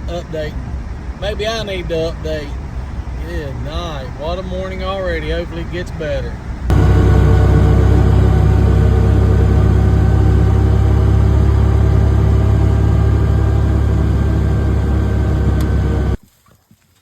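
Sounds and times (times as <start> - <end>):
vehicle engine droning: 0.0 - 16.2.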